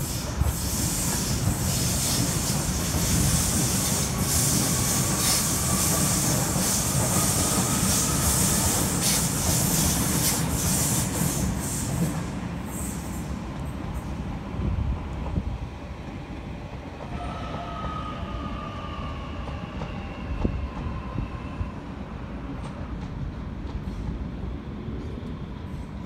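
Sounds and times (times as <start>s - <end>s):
faint train whine: 0.0s - 26.0s
train wheels on rails: 0.0s - 26.0s.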